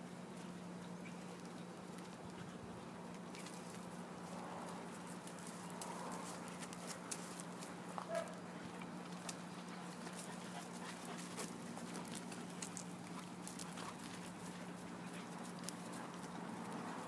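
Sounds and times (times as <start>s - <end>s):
paws scuffing on dirt and gravel: 0.0s - 17.0s
steady low hum: 0.0s - 17.0s
dogs sniffing: 2.0s - 17.0s.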